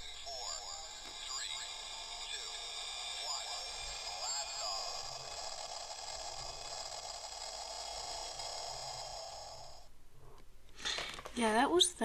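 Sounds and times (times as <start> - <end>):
toy speaker hiss with tones: 0.0 - 9.9.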